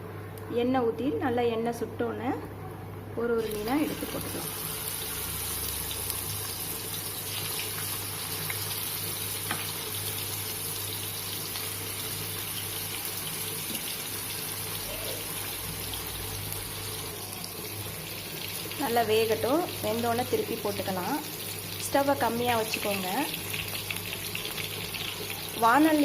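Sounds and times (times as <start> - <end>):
fish frying in hot oil: 3.4 - 26.0.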